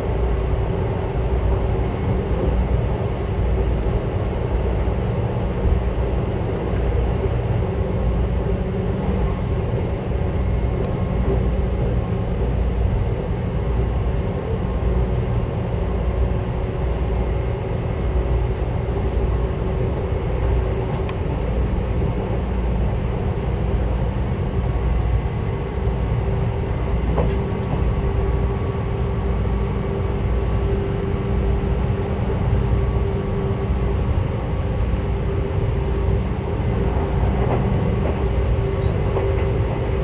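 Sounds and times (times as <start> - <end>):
steady train hum: 0.0 - 40.0
train wheels rumbling: 0.0 - 40.0.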